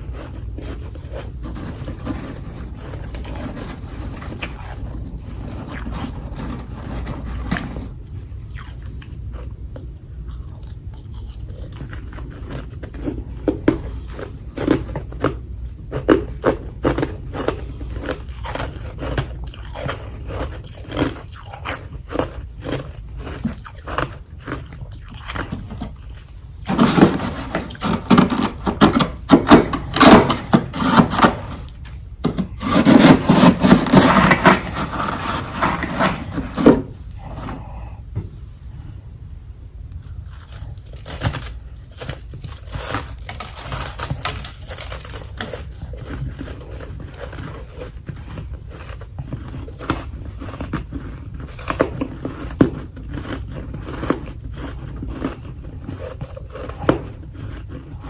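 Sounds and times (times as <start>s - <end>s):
frost chunks crunching when chewed: 0.0s - 38.0s, 39.9s - 58.0s.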